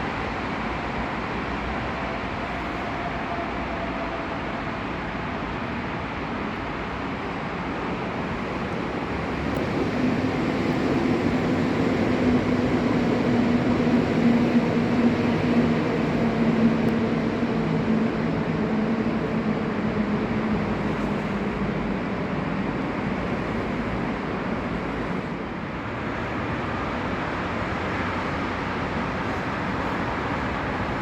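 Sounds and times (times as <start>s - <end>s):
train rolling past: 0.0s - 31.0s.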